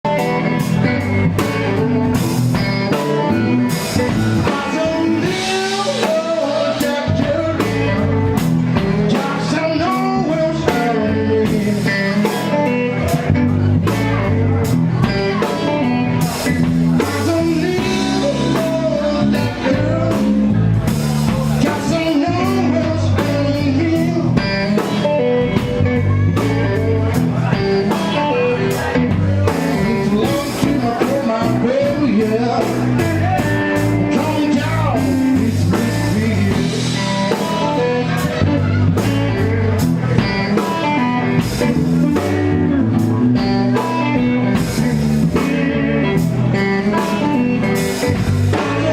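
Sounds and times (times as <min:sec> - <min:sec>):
bass: 0:00.0 - 0:48.9
drum kit steady beat: 0:00.0 - 0:48.9
electric guitar lines: 0:00.0 - 0:48.9.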